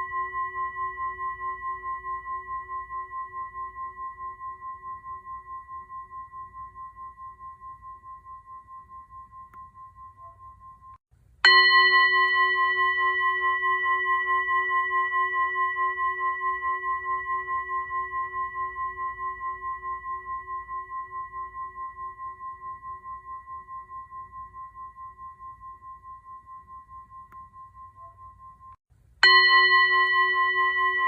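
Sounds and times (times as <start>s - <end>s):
singing bowl ringing: 0.0s - 31.0s.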